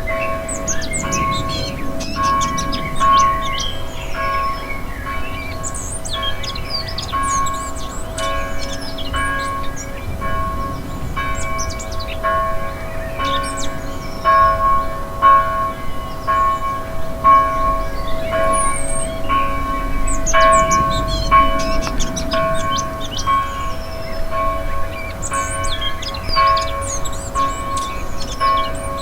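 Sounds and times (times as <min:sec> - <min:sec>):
church bell ringing: 0:00.0 - 0:29.0
small birds chirping: 0:00.0 - 0:29.0.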